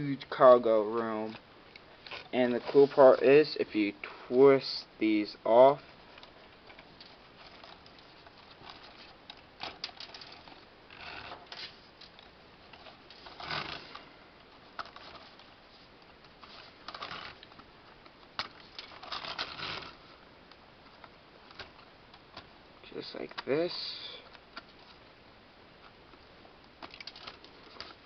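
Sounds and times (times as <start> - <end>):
handling rustles: 0.7 - 4.5, 5.7 - 28.0.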